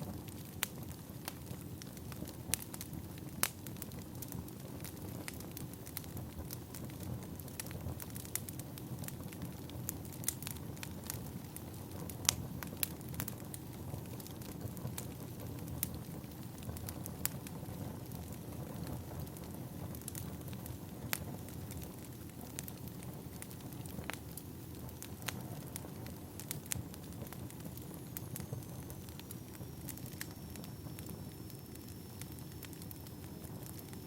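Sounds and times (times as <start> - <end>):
firewood crackling and popping: 0.0 - 34.0
wood fire rumble: 0.0 - 34.0.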